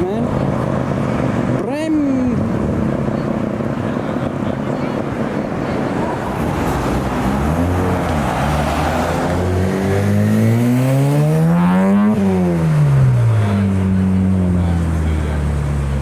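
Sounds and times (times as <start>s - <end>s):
road noise rush: 0.0s - 16.0s
car engine revving: 2.4s - 16.0s.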